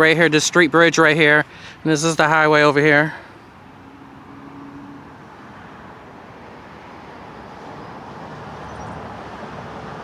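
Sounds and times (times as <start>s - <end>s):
highway traffic noise: 0.0s - 10.0s.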